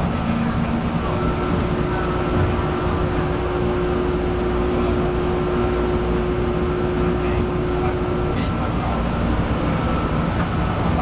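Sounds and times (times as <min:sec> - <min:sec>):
steady humming tone: 0:00.0 - 0:11.0
train cabin rumble: 0:00.0 - 0:11.0.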